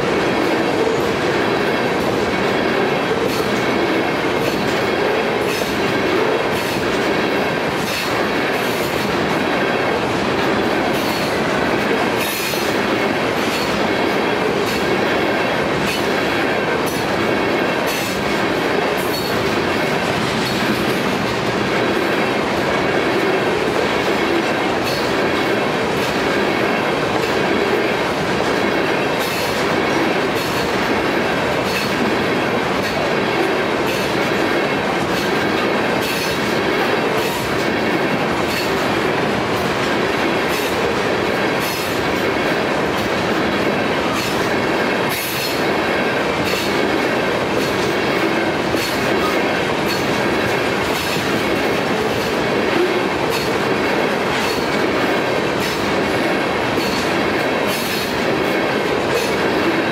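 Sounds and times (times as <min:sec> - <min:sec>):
train wheels rumbling on rail: 0:00.0 - 0:59.9
wheels clicking over rail joints: 0:00.2 - 0:59.9.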